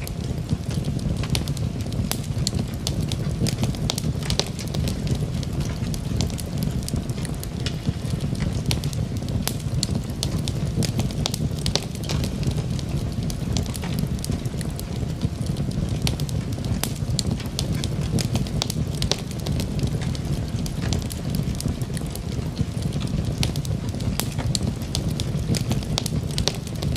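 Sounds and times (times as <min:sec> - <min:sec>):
fire crackling and popping: 0:00.0 - 0:26.9
low rumble of flames: 0:00.0 - 0:26.9.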